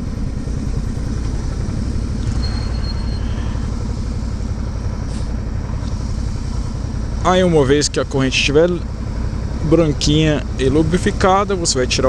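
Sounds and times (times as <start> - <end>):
motorcycle riding rumble: 0.0 - 12.0.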